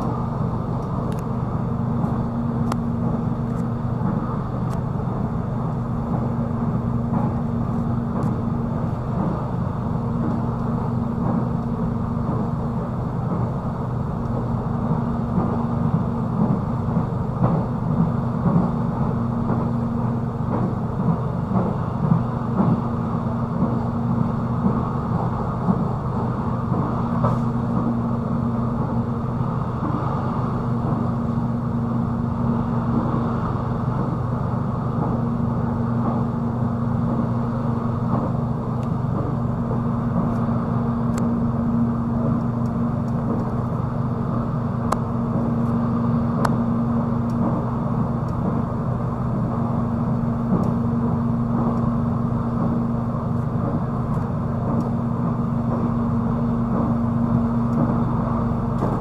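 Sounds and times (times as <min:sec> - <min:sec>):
constant low hum: 0:00.0 - 0:59.0
wheels rumbling on rails: 0:00.0 - 0:59.0.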